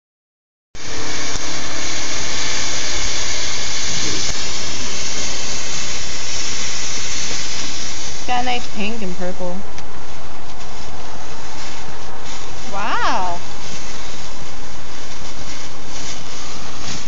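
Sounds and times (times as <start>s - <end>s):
firework fountain hissing: 0.8s - 17.0s.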